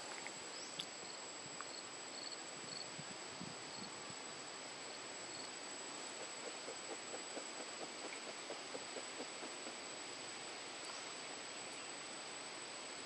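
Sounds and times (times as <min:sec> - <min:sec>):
faint insect chirps: 0:00.0 - 0:13.0
insects droning: 0:00.0 - 0:13.0.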